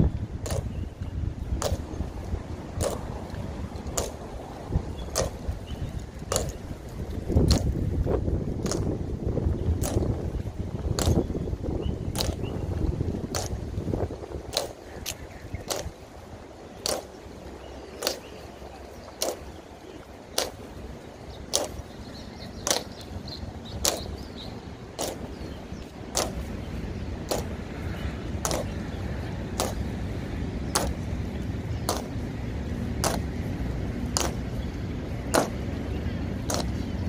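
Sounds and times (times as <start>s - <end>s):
boots marching on pavement: 0.0s - 37.0s
low steady rumble: 0.0s - 37.0s.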